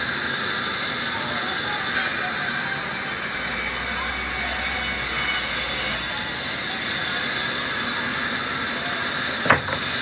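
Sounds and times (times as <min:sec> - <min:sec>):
band saw whining: 0:00.0 - 0:10.0.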